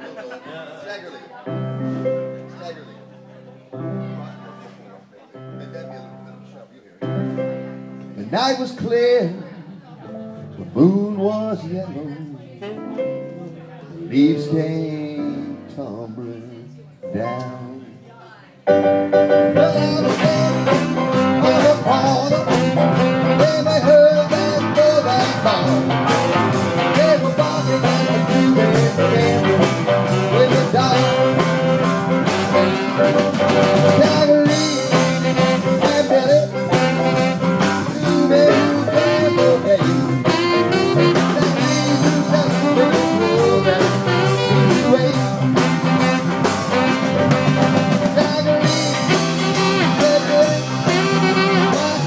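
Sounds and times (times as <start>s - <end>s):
live blues-rock band playing: 7.1s - 16.6s, 18.6s - 52.0s.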